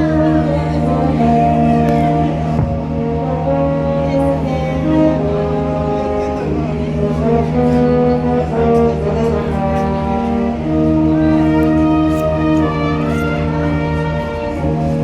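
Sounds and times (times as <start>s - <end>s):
brass band playing slow piece: 0.0s - 15.0s.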